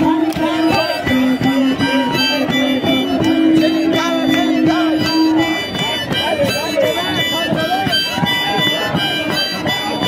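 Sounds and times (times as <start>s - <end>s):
harmonica playing: 0.0s - 10.0s.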